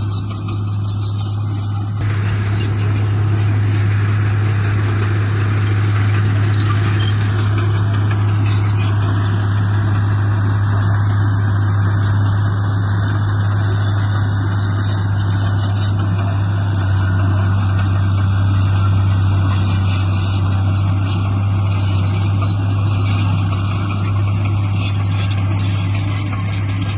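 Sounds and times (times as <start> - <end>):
heavy diesel engine running: 0.0 - 26.9.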